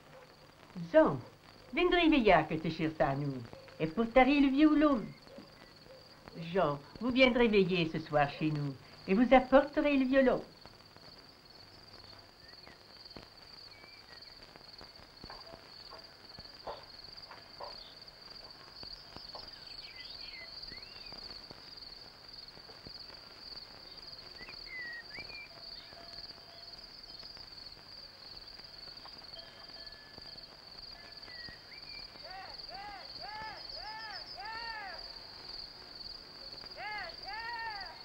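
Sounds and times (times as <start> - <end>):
crickets trilling: 0.0 - 38.0.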